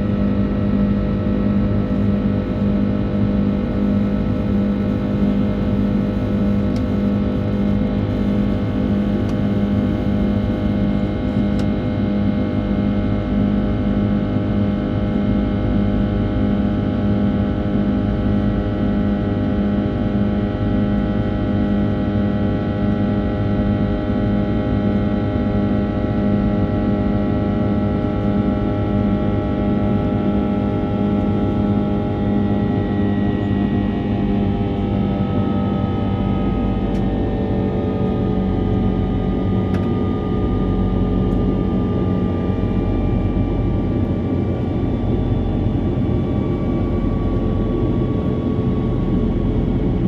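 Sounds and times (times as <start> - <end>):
airplane cabin drone: 0.0 - 50.0.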